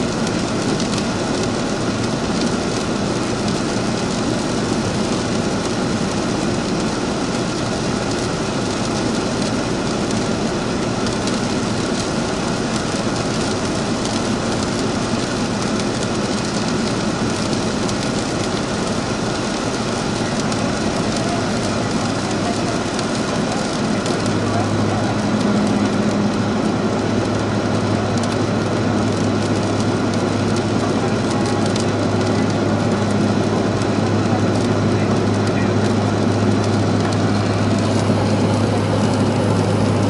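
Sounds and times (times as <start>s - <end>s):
aircraft cabin noise: 0.0s - 40.0s.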